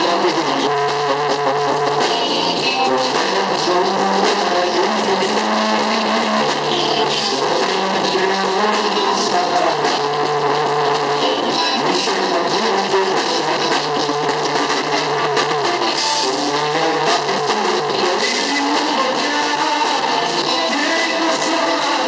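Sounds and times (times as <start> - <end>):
live band with plucked strings: 0.0 - 22.0.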